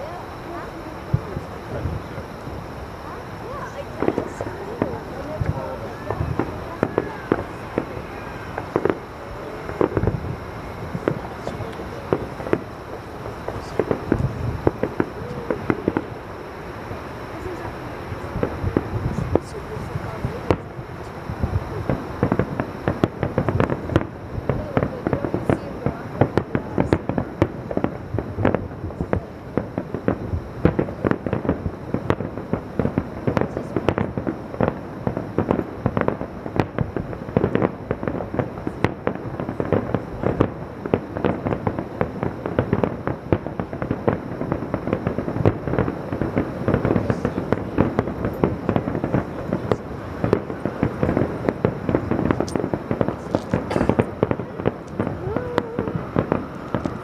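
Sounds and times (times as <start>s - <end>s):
fireworks bursts and bangs: 0.0s - 57.0s
fireworks crackle: 0.0s - 57.0s.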